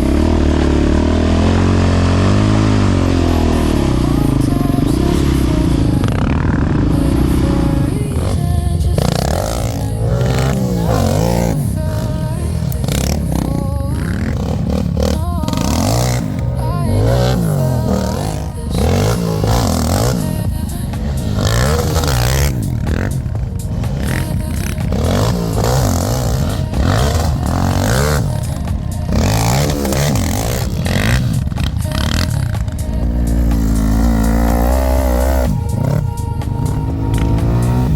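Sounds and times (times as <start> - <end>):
quad engine revving: 0.0 - 37.9.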